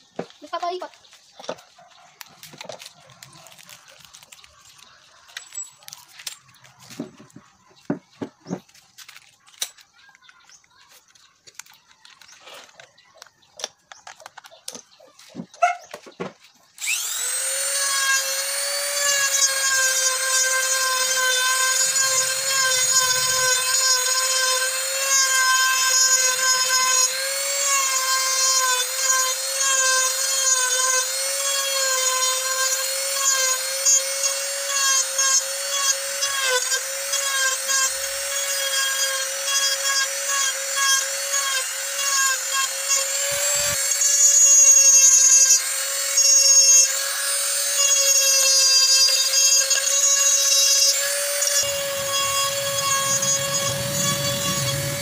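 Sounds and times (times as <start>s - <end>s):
rotary tool grinding wood: 0.0s - 55.0s.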